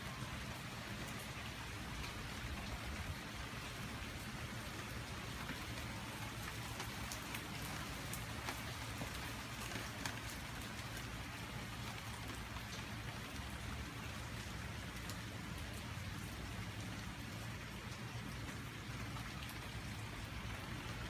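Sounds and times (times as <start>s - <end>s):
steady rain: 0.0s - 21.0s
raindrops ticking: 0.1s - 21.0s.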